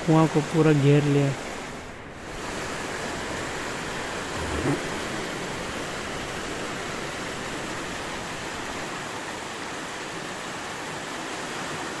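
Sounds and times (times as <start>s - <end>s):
rushing floodwater: 0.0s - 12.0s.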